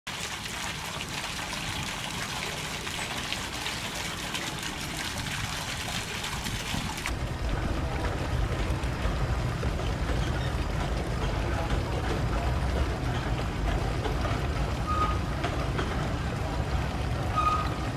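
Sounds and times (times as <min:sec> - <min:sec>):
water trickling into a basin: 0:00.1 - 0:17.9.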